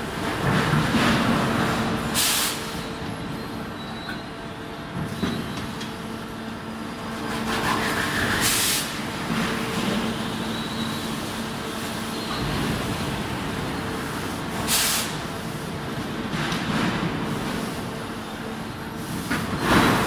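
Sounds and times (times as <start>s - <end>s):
machinery hum: 0.0s - 20.0s.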